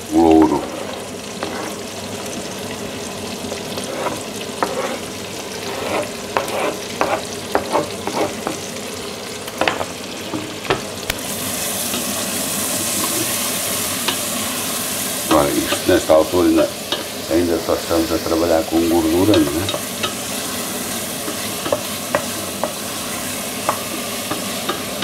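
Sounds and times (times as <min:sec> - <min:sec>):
onion and meat sizzling: 0:00.0 - 0:25.0.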